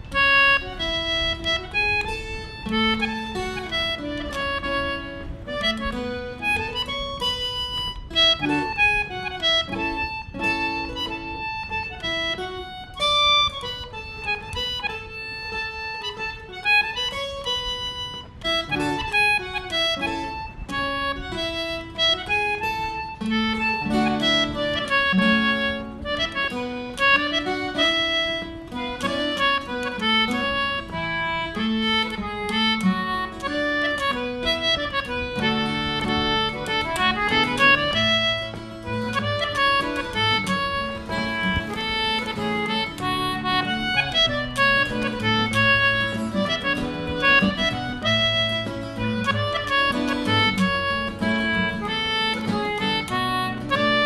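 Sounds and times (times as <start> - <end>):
acoustic guitar accompaniment: 0.0 - 54.0
concertina melody: 0.0 - 54.0.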